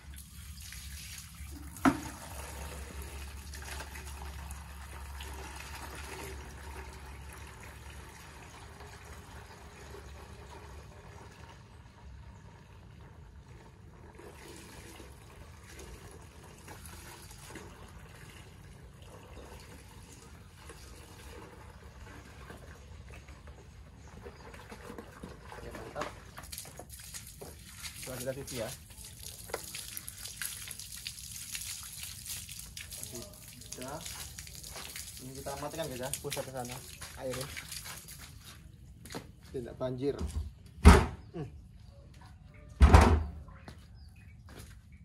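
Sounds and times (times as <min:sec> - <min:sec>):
water running into a bucket: 0:00.0 - 0:38.7.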